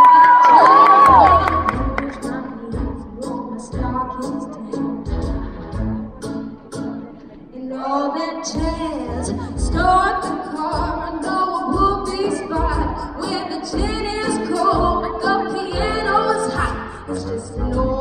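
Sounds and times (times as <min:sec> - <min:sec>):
woman singing into a microphone: 0:00.0 - 0:05.4, 0:07.5 - 0:18.0.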